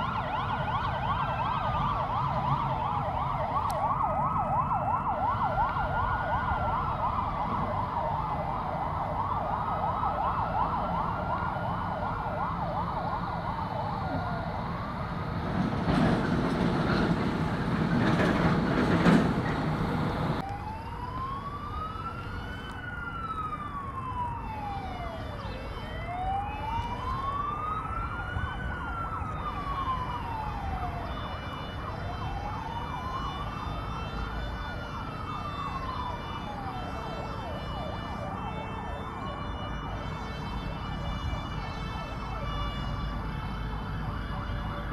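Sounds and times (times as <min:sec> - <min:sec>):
fire truck siren: 0:00.0 - 0:44.9.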